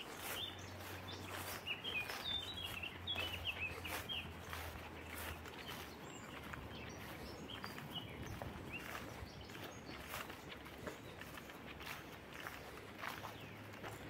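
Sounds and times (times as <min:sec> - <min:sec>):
footsteps on a path: 0:00.0 - 0:14.0
songbird chirping: 0:00.0 - 0:14.0.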